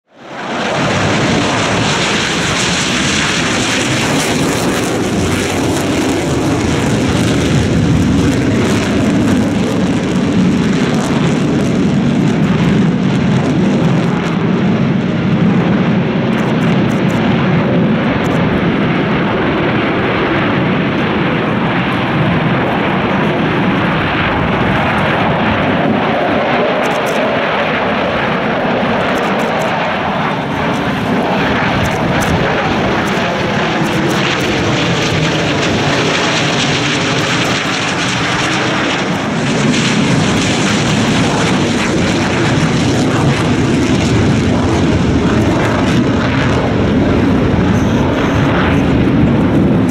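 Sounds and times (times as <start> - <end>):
fighter jets flying overhead: 0.0 - 49.9.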